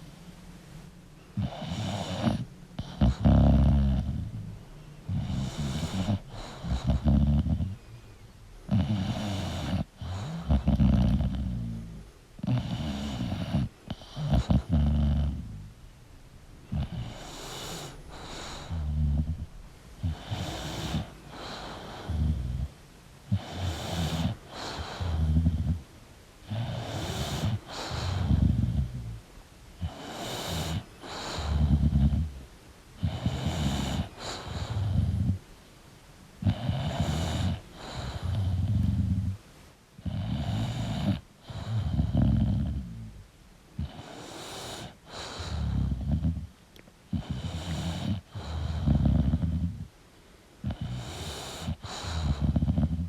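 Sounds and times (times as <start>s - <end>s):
dog snoring: 1.4s - 7.9s, 8.7s - 15.8s, 16.7s - 25.8s, 26.4s - 29.2s, 29.8s - 32.4s, 33.0s - 35.5s, 36.4s - 39.4s, 40.0s - 43.2s, 43.8s - 49.9s, 50.6s - 53.0s.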